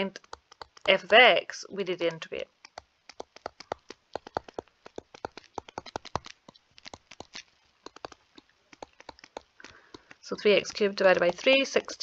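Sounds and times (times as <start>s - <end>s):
stylus tapping on tablet: 0.0s - 1.4s, 2.2s - 11.8s.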